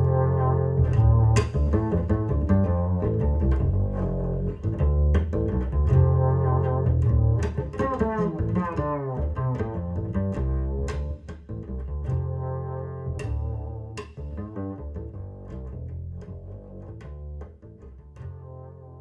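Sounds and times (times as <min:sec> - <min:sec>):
plucked double bass: 0:00.0 - 0:19.0.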